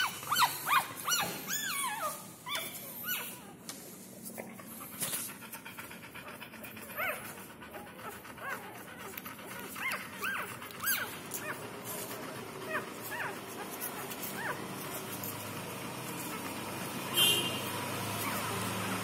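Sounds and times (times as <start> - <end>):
puppies squeaking and whimpering: 0.0 - 3.6, 4.6 - 17.1, 18.0 - 18.8.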